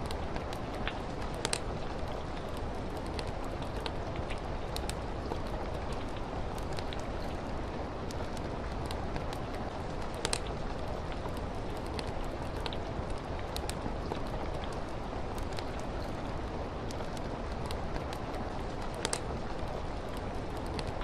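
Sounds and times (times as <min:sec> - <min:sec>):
steady rain: 0:00.0 - 0:21.0
wood fire crackling and popping: 0:00.0 - 0:21.0.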